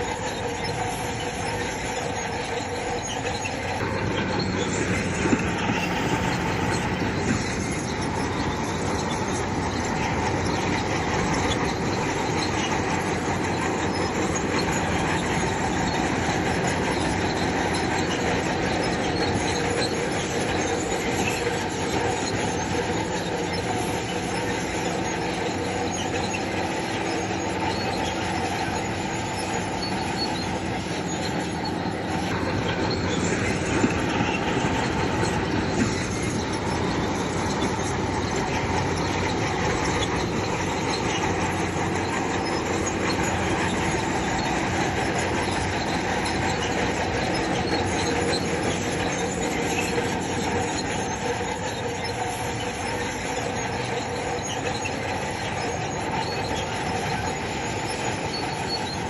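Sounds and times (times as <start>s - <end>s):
bulldozer diesel engine running: 0.0s - 59.0s
steel tracks squealing and clattering: 0.0s - 59.0s.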